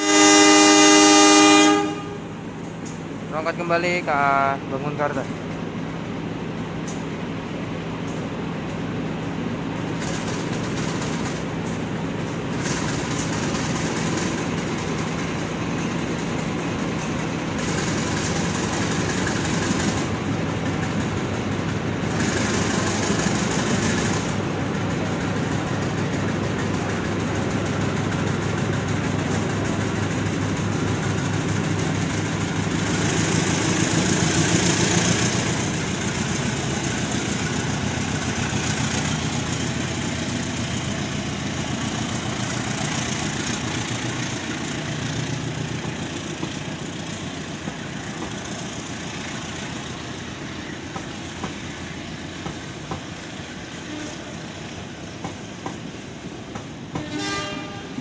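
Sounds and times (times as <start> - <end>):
locomotive engine humming: 0.0 - 58.0
train wheels rolling on rails: 0.0 - 58.0.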